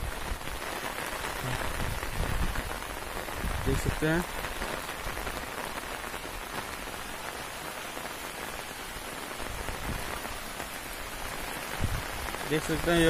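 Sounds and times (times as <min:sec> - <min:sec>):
rain falling on wet ground: 0:00.0 - 0:13.0.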